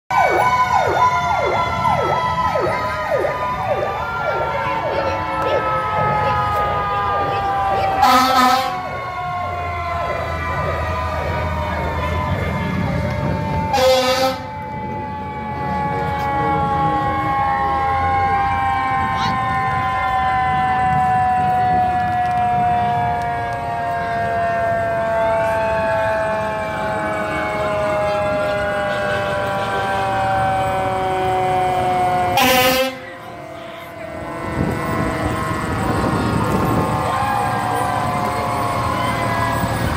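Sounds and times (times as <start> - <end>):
steady high siren tone: 0.1 - 39.9
sweeping emergency siren: 0.1 - 39.9.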